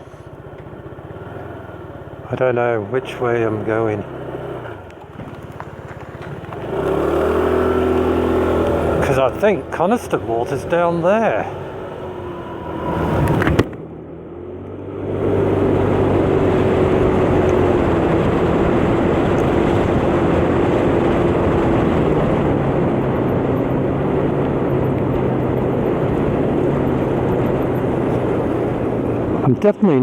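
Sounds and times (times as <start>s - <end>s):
motor scooter engine running: 0.0s - 29.5s
wind and road noise: 0.0s - 30.0s.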